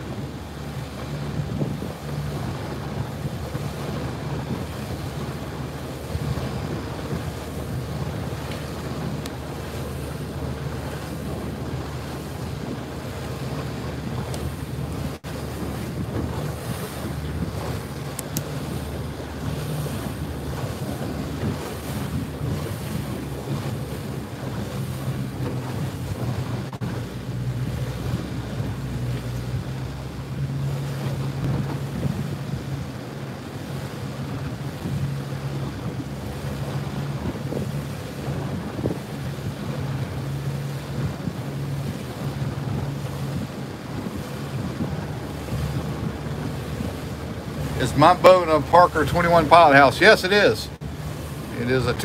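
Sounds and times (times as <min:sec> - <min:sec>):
boat engine humming: 0:00.0 - 0:52.0
choppy water washing: 0:00.0 - 0:52.0
wind buffeting microphone: 0:00.0 - 0:52.0.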